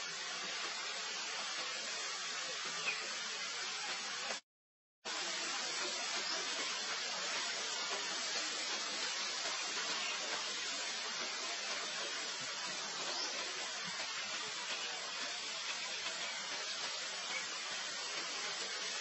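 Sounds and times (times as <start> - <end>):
background hiss: 0.0 - 4.4, 5.1 - 19.0.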